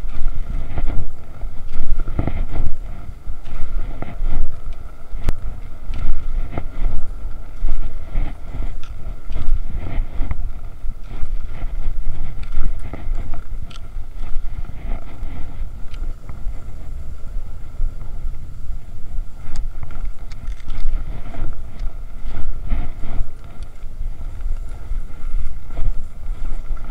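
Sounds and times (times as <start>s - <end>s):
skis swishing on snow: 0.0s - 26.9s
wind buffeting microphone: 0.0s - 26.9s.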